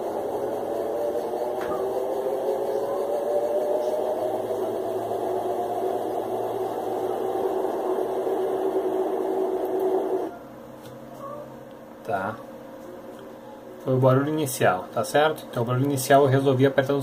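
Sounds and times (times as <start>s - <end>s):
washing machine spinning with whine: 0.0s - 17.0s.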